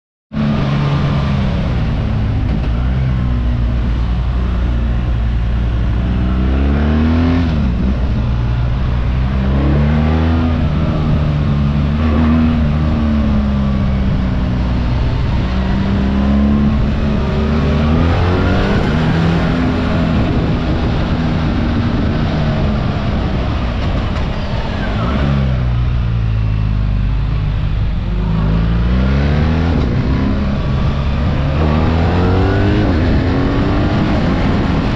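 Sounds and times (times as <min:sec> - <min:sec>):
motorcycle engine accelerating: 0:00.3 - 0:34.9
wind and road noise: 0:00.3 - 0:34.9.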